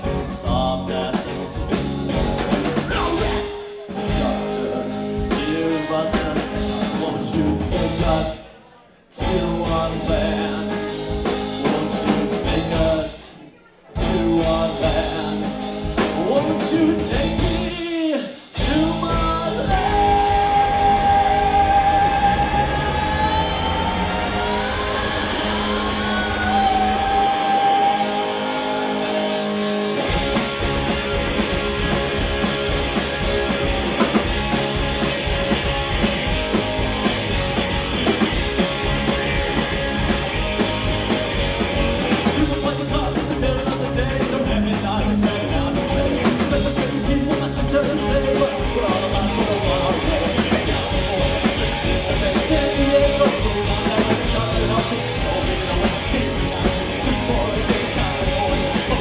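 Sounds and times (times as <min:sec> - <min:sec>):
live rock band playing: 0:00.0 - 0:08.5, 0:09.2 - 0:59.0.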